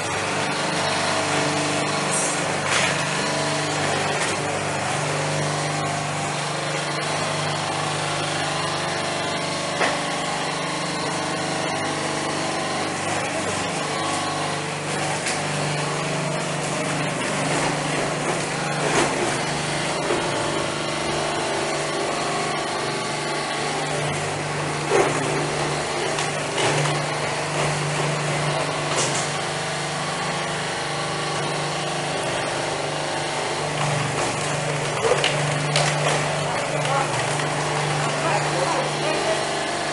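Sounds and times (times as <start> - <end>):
peeling machine humming: 0.0 - 39.9.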